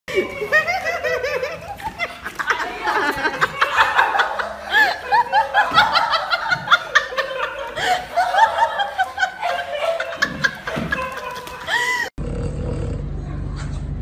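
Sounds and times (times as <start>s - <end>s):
person laughing: 0.1s - 12.1s.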